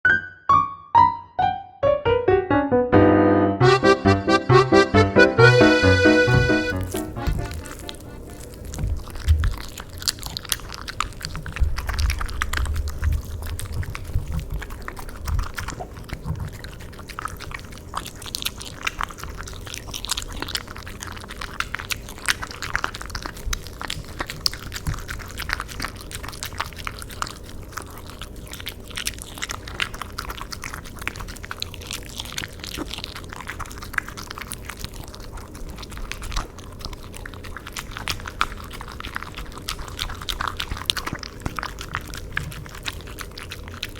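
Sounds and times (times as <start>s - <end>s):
dog chewing food: 3.6s - 43.9s
wet mouth clicks: 6.0s - 43.9s.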